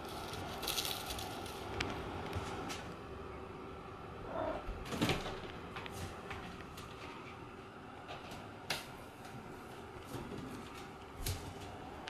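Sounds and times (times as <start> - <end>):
extractor fan humming: 0.0 - 12.0.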